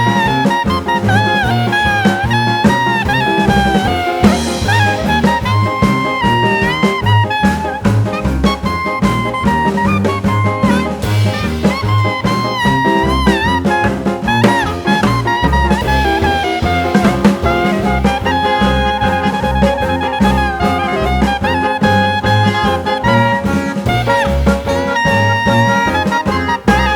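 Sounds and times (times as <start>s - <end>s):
brass melody: 0.0s - 26.9s
drums: 0.0s - 26.9s
walking bass: 0.0s - 26.9s.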